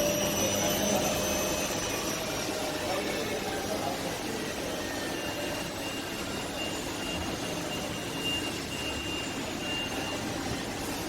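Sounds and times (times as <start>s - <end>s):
faint high motor whine: 0.0s - 11.0s.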